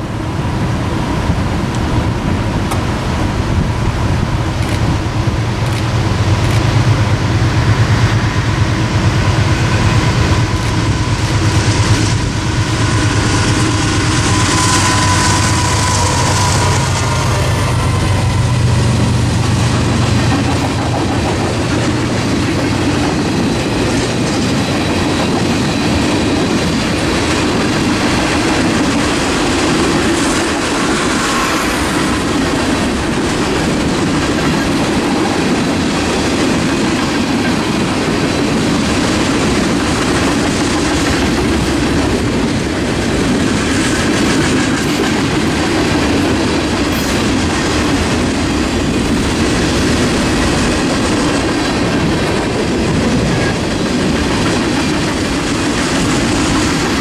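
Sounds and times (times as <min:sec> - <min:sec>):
diesel locomotive drone: 0:00.0 - 0:57.0.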